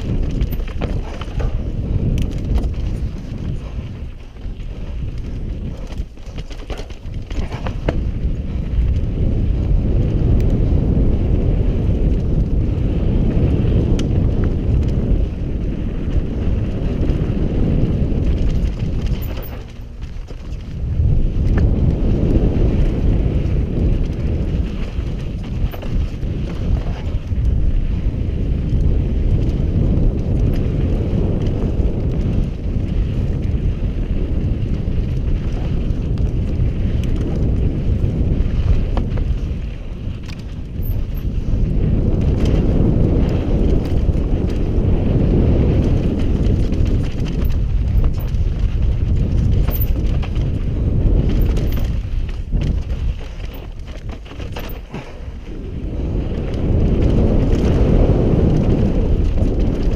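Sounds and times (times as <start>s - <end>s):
bike clicking and clattering: 0.0s - 59.9s
mountain bike rumbling and rattling: 0.0s - 59.9s
wind buffeting microphone: 0.0s - 59.9s.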